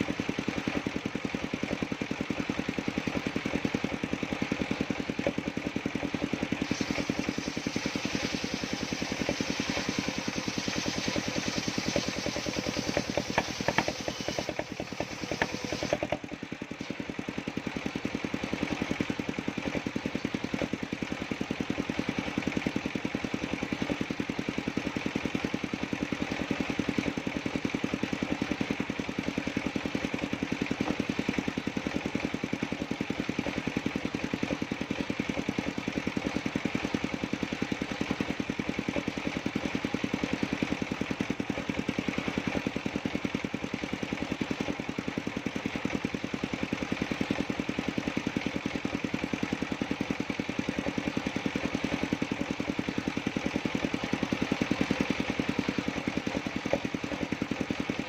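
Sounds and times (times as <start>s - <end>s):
sawmill engine driving circular saw: 0.0s - 58.0s.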